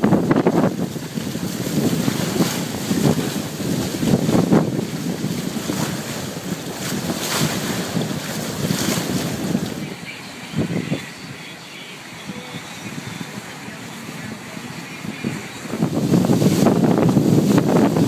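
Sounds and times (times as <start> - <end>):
water rushing past hull: 0.0 - 18.0
wind buffeting microphone: 0.0 - 18.0.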